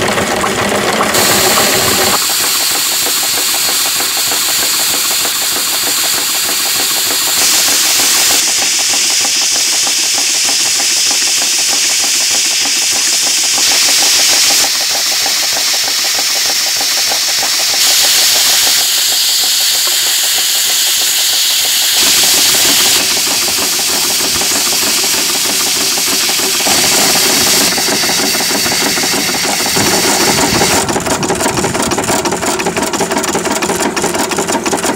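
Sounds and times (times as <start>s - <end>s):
steam engine exhaust beats: 0.0s - 34.9s
steam hissing: 1.0s - 33.9s.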